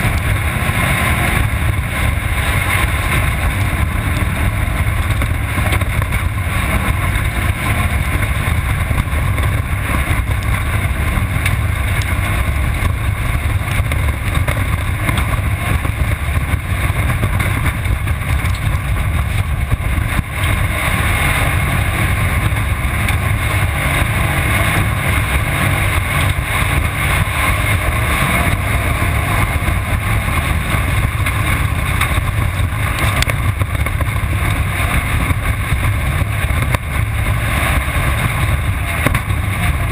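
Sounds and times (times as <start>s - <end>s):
race car engine: 0.0s - 39.9s
terrain noise: 0.0s - 39.9s
wind noise: 0.0s - 39.9s.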